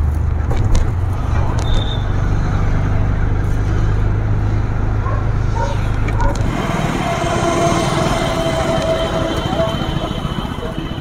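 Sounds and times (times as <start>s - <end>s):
outdoor street noise: 0.0s - 11.0s
vehicle engine rumble and road noise: 0.0s - 11.0s.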